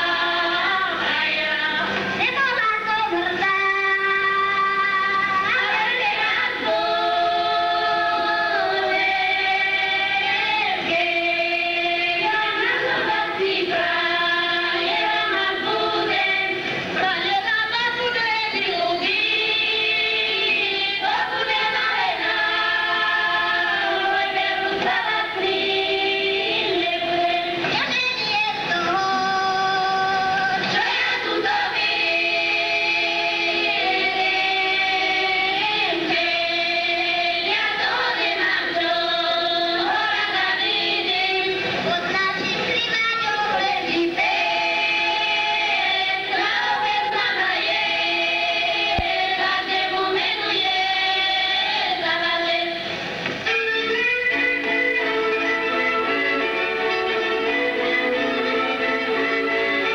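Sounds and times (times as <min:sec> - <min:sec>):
women singing folk song: 0:00.0 - 0:59.9.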